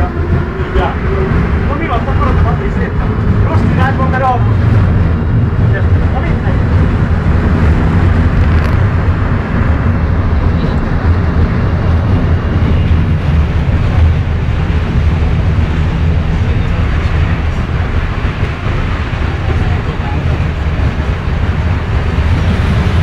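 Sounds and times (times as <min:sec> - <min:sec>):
tram rumbling over track: 0:00.0 - 0:23.0.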